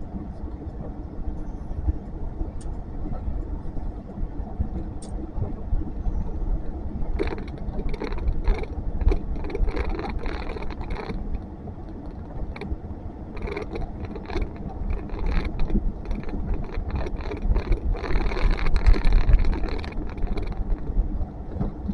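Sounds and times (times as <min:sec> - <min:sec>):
blizzard wind gusting on microphone: 0:00.0 - 0:21.9.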